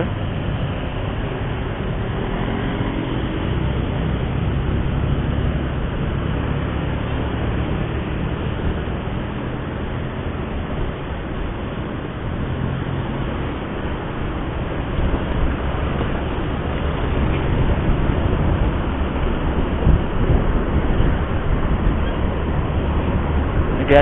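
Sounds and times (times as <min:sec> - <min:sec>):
road noise rushing: 0:00.0 - 0:24.0
vehicle engine running: 0:00.0 - 0:24.0.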